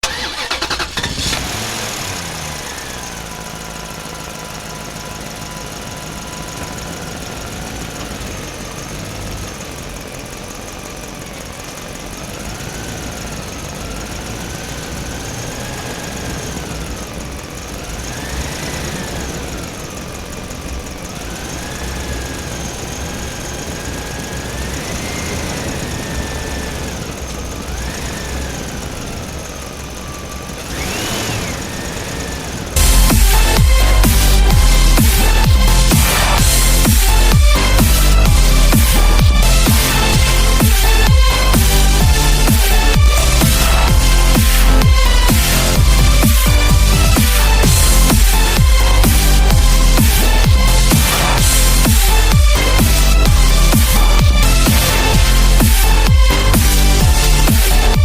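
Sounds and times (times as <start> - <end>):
motor engine revving: 0.0 - 58.0.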